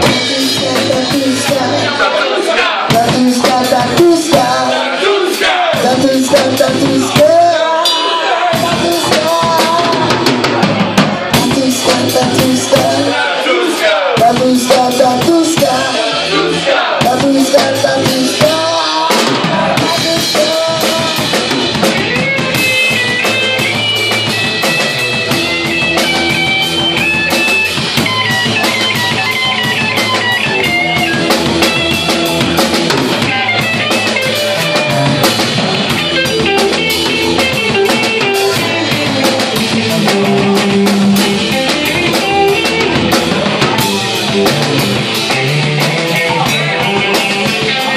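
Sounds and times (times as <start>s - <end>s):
high guitar run: 0.0s - 47.9s
live band playing loud music: 0.0s - 47.9s.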